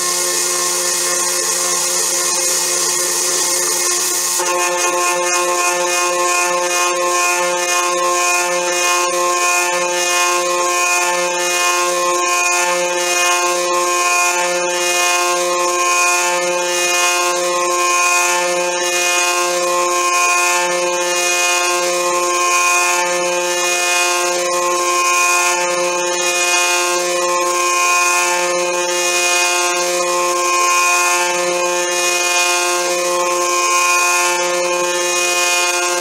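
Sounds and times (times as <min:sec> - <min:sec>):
milling machine spindle whine: 0:00.0 - 0:36.0.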